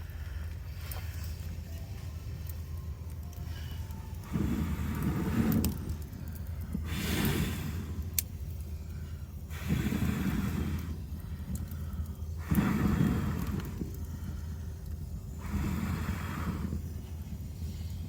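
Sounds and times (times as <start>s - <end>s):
steady low hum: 0.0s - 18.0s
wood fire crackling: 0.0s - 18.0s.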